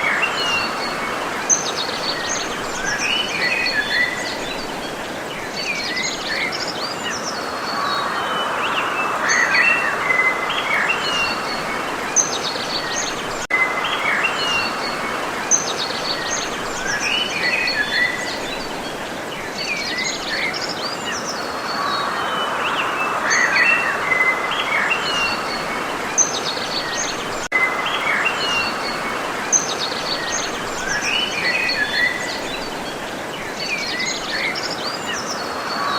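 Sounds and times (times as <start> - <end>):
songbirds chirping and trilling: 0.0 - 35.9.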